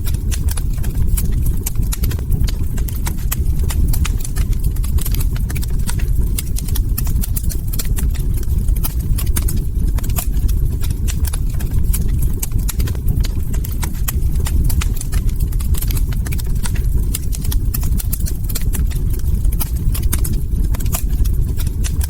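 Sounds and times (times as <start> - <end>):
log fire crackling: 0.0 - 22.0
low rumble of burning: 0.0 - 22.0.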